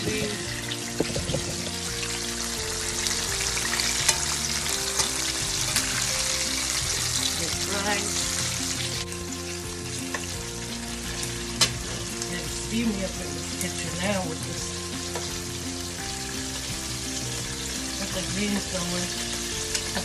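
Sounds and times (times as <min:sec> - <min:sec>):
chicken wings sizzling in hot oil: 0:00.0 - 0:20.0.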